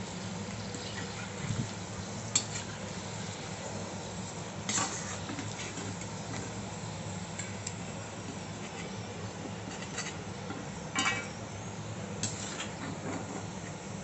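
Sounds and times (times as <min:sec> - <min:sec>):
hot oil hissing: 0:00.0 - 0:14.0.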